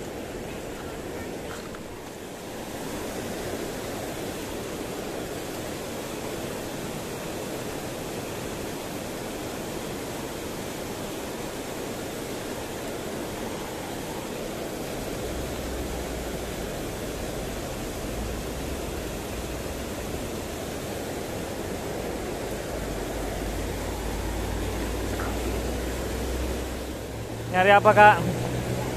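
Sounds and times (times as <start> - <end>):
water rushing over weir: 0.0 - 28.9.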